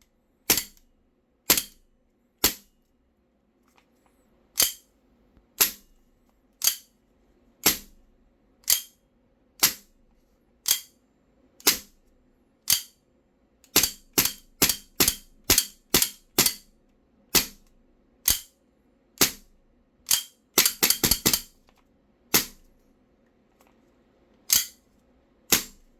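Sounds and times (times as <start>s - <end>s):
faint steady hum: 0.0s - 14.6s, 15.2s - 25.9s.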